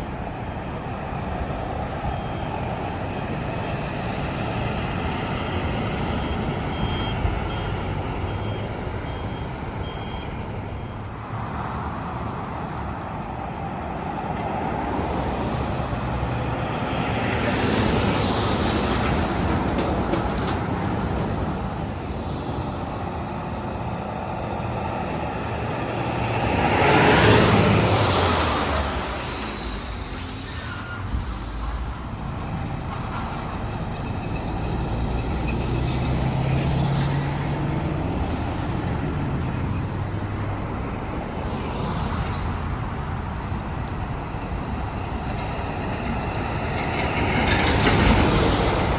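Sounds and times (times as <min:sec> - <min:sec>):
trucks passing on highway: 0:00.0 - 0:48.9.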